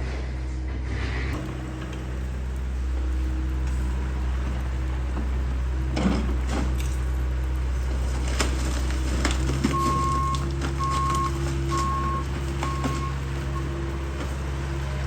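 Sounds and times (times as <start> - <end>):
excavator diesel engine: 0.0 - 15.0
debris knocking and crunching: 1.4 - 15.0.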